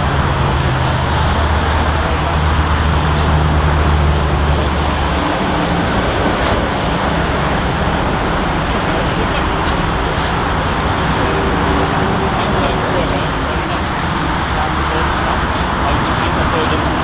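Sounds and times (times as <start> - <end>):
jet engines roaring: 0.0 - 17.0
low steady hum: 0.0 - 17.0.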